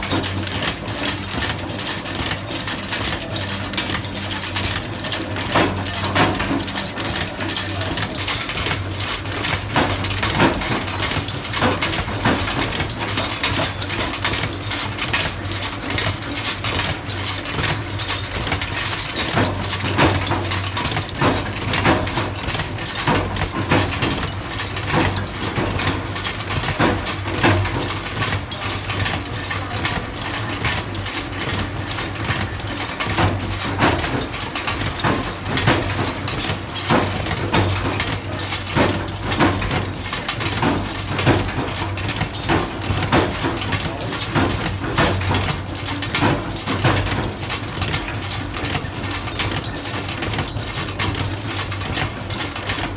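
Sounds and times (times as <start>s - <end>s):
press machinery humming: 0.0s - 52.9s.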